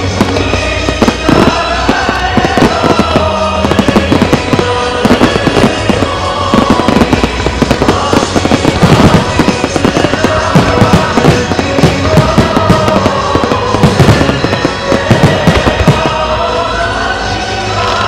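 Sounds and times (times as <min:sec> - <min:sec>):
firework shells bursting: 0:00.0 - 0:16.3
music playing: 0:00.0 - 0:18.0.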